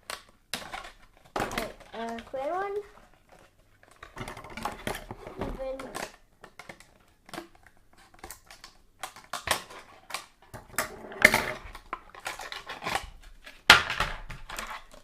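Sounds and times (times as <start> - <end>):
plastic packaging crackling: 0.0 - 15.0.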